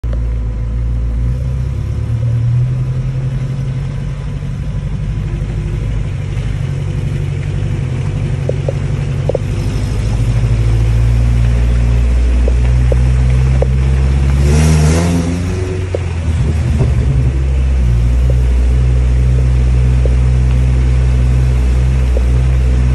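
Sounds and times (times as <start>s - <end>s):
vehicle engine rumbling: 0.0s - 22.9s
tyres on gravel: 2.1s - 22.9s.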